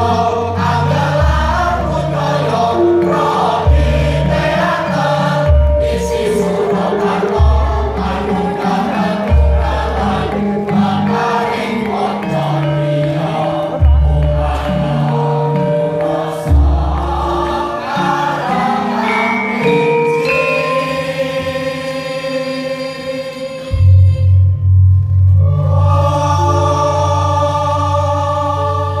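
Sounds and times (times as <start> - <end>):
voices singing together: 0.0 - 24.6, 25.4 - 29.0
gamelan music: 0.0 - 29.0.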